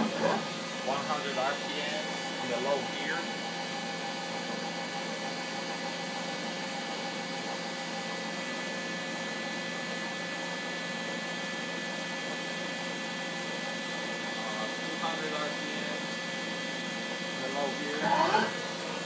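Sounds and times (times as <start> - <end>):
lathe machine hum and hiss: 0.0 - 19.0.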